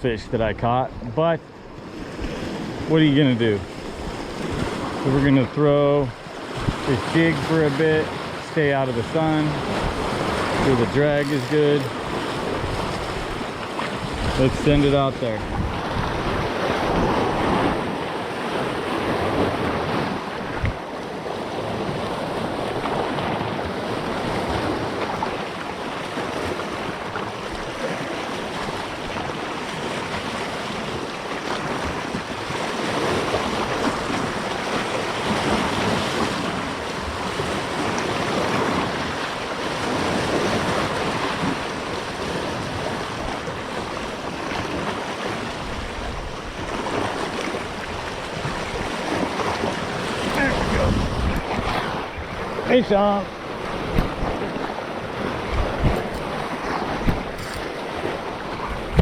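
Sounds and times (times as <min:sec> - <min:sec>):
sea waves washing: 0:00.0 - 0:59.0
wind on microphone: 0:00.0 - 0:59.0.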